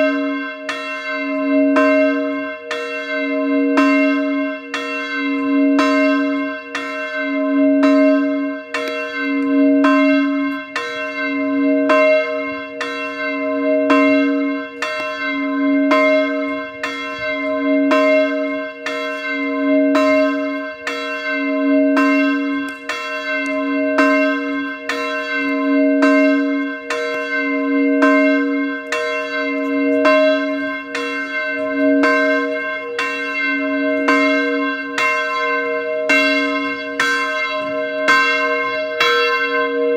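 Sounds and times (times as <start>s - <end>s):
church bell tolling: 0.0s - 39.9s.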